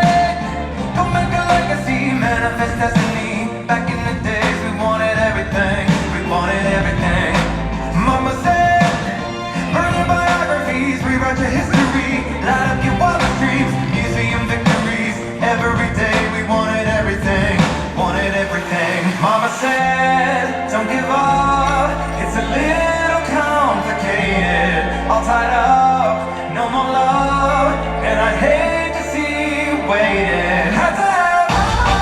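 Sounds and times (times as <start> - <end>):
held bass notes: 0.0 - 32.0
song with lead singing voice: 0.0 - 32.0.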